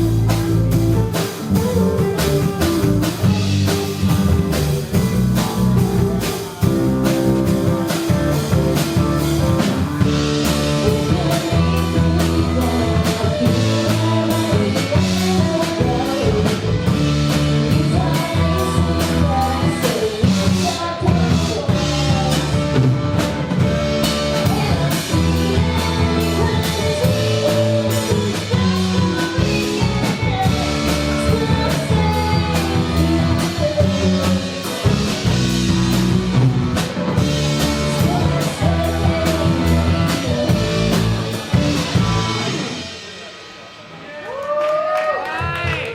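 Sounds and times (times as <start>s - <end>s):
person singing: 0.0s - 36.5s, 37.1s - 42.8s
live rock band playing: 0.0s - 45.9s.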